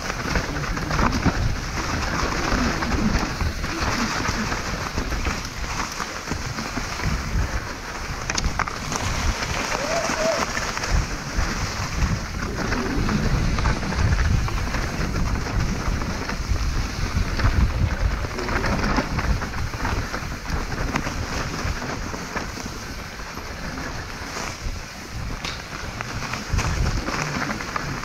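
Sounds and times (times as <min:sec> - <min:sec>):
bike rattling over rough ground: 0:00.0 - 0:28.0
wind buffeting microphone: 0:00.0 - 0:28.0.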